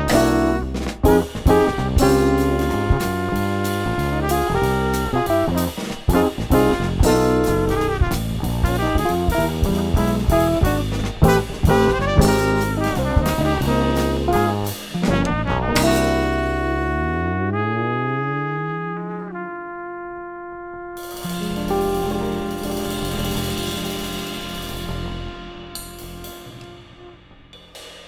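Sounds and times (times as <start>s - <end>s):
drum hits: 0.0s - 16.8s, 21.2s - 28.0s
jazz quartet playing: 0.0s - 27.5s
trumpet: 0.0s - 27.9s.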